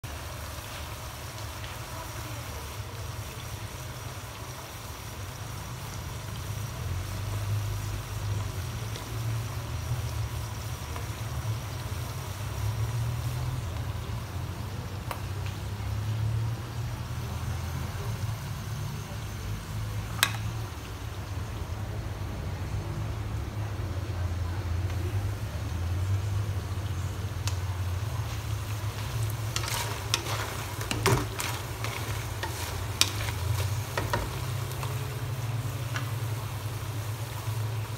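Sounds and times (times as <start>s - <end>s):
oil bubbling and sizzling: 0.0s - 37.9s.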